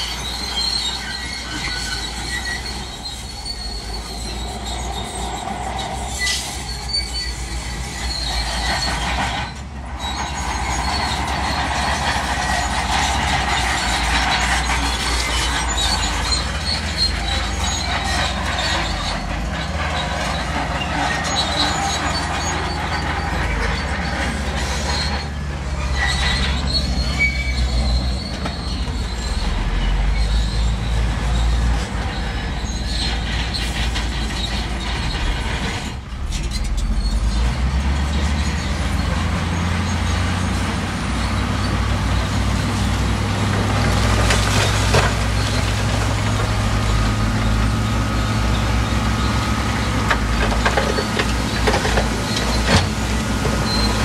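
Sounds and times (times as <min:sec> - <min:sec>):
diesel engine rumble: 0:00.0 - 0:54.0
steel tracks squealing and clanking: 0:00.0 - 0:54.0.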